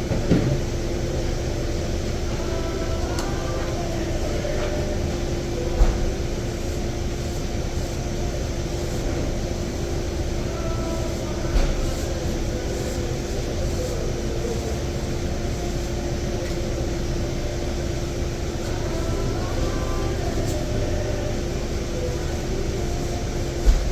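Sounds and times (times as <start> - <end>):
mechanical rumble and hum: 0.0 - 23.9.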